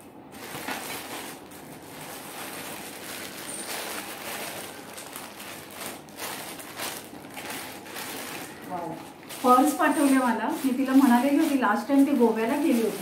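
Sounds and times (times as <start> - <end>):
plastic mailer bag crinkling: 0.3 - 13.0.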